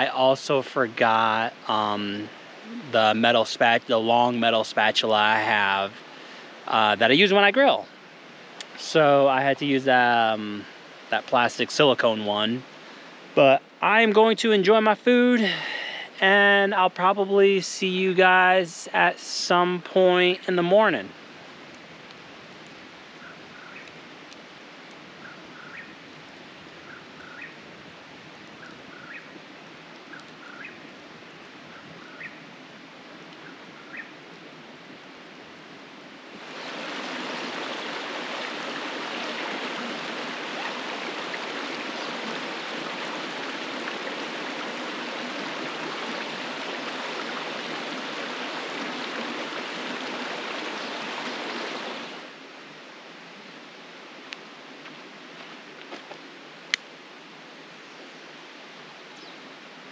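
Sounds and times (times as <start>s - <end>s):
creek water rushing: 0.0s - 59.9s.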